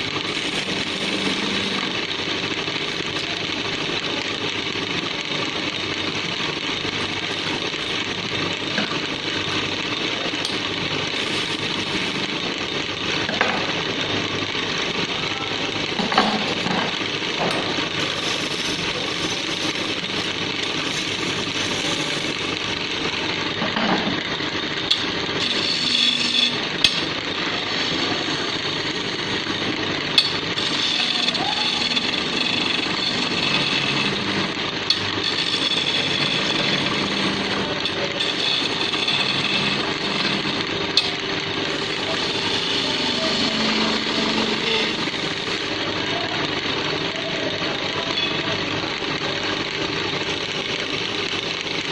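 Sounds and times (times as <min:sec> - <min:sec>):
wood lathe chisel scraping: 0:00.0 - 0:46.1, 0:47.9 - 0:51.9.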